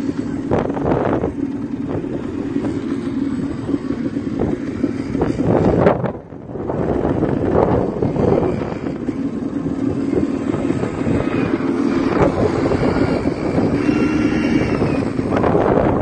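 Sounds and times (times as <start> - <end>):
quad bike engines droning: 0.0 - 16.0.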